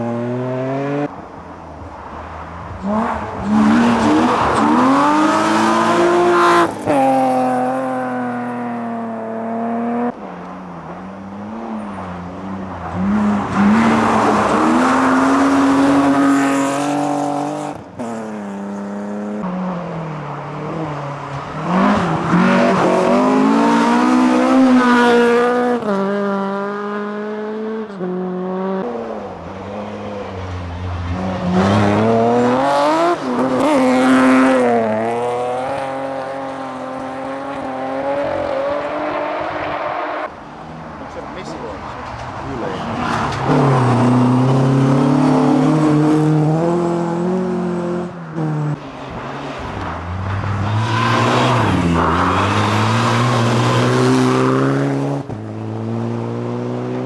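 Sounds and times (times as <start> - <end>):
rally cars passing at full throttle: 0.0 - 57.0.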